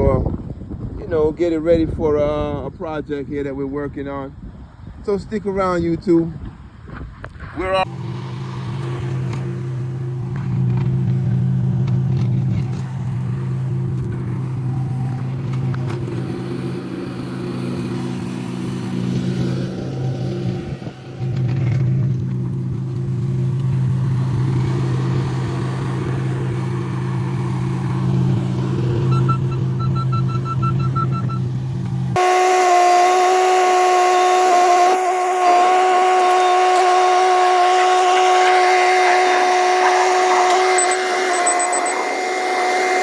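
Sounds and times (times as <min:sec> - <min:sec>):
machine engine humming: 0:07.8 - 0:43.0.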